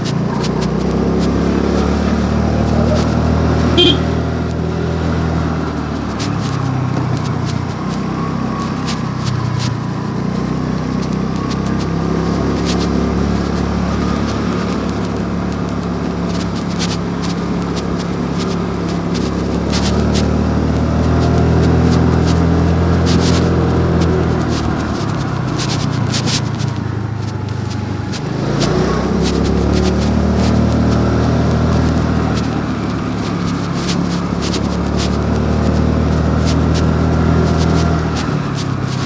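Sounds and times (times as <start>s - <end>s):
road noise: 0.0s - 39.0s
scooter engine running: 0.0s - 39.0s
sharp clicks and scrapes: 0.0s - 39.0s.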